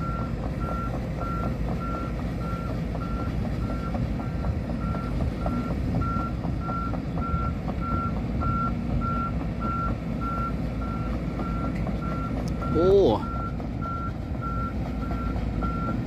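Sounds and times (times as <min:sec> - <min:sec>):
diesel engine rumble: 0:00.0 - 0:16.0.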